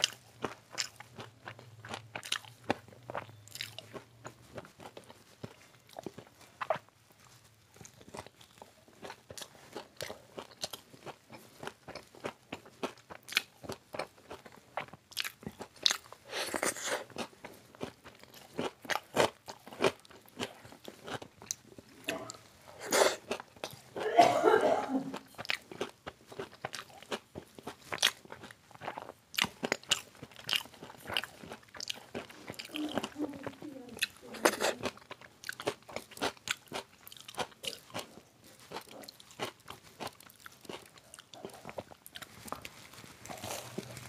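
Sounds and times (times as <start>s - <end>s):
crunchy chewing and biting: 0.0s - 24.1s, 25.1s - 44.0s.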